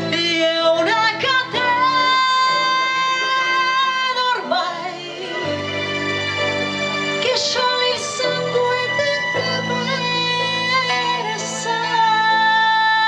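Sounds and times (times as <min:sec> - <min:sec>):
woman singing into microphone: 0:00.0 - 0:05.9, 0:07.2 - 0:13.0
backing track music: 0:00.0 - 0:13.0.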